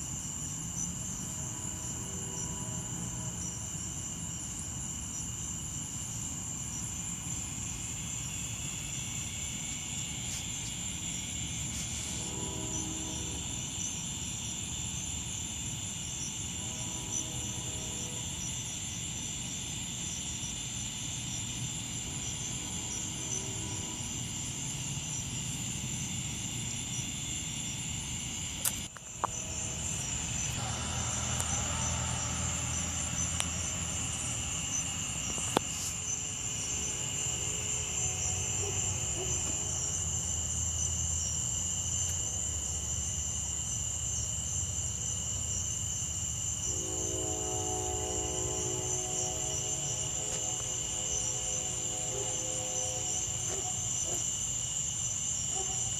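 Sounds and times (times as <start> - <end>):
night insects trilling: 0.0 - 55.9.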